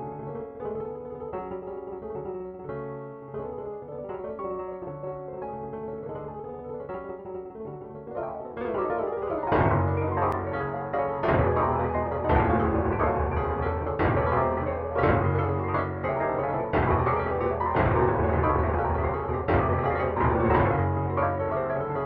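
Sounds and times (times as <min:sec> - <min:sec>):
piano melody with bass chords: 0:00.0 - 0:22.0.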